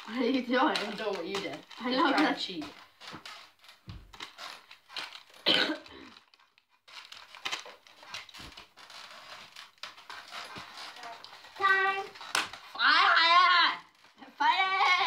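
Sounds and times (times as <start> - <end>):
wrapping paper tearing: 0.0 - 15.0.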